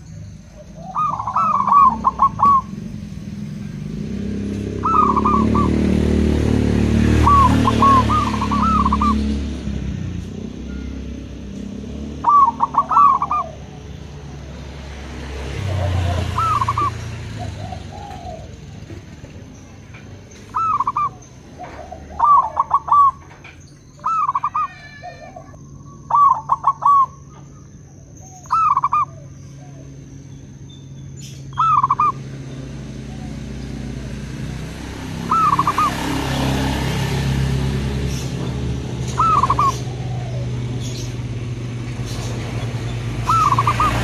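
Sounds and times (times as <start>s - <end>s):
doves cooing: 0.0s - 30.6s, 31.4s - 44.0s.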